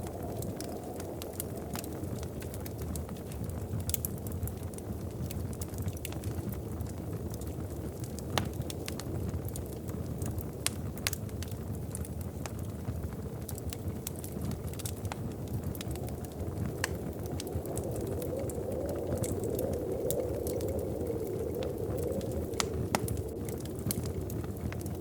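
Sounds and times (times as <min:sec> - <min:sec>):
wood fire crackling in fireplace: 0:00.0 - 0:25.0.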